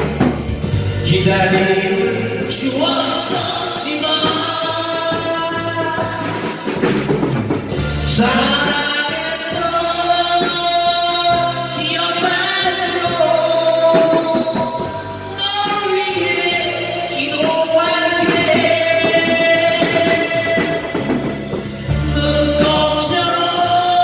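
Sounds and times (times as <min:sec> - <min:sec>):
drum kit: 0:00.0 - 0:24.0
keyboard: 0:00.0 - 0:24.0
person singing long notes: 0:01.0 - 0:24.0.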